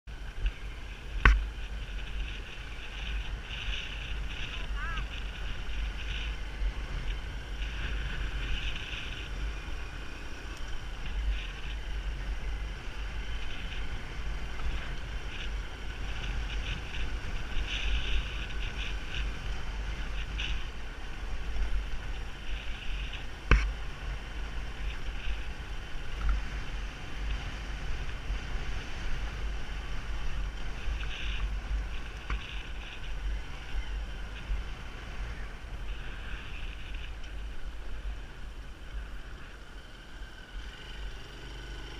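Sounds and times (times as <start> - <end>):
wind buffeting microphone: 0.1 - 39.8
motorbike running: 0.1 - 41.9.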